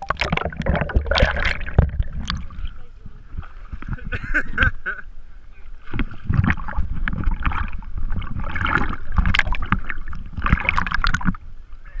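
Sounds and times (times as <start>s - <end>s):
water splashing against camera: 0.0s - 4.7s, 5.6s - 11.5s
low rumble of moving water: 0.0s - 12.0s.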